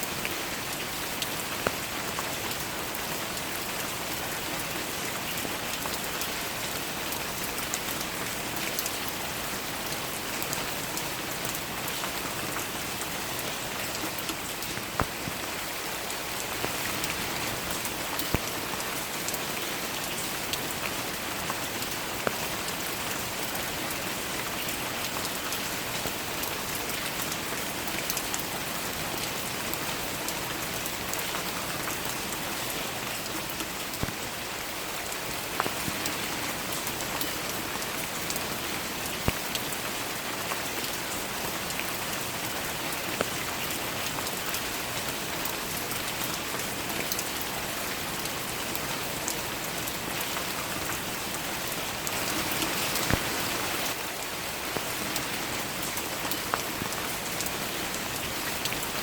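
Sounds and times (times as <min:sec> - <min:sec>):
steady rain falling: 0:00.0 - 0:59.0
close raindrops landing: 0:00.1 - 0:59.0.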